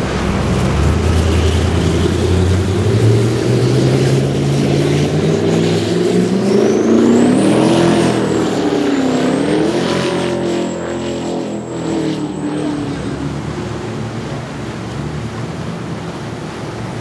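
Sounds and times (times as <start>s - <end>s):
powerboat engines running: 0.0s - 17.0s.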